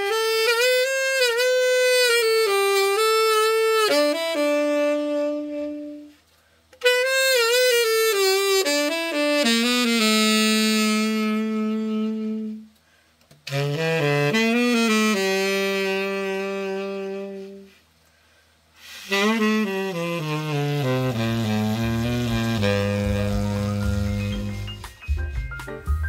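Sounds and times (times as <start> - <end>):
tenor saxophone solo: 0.0 - 18.0, 18.8 - 24.9.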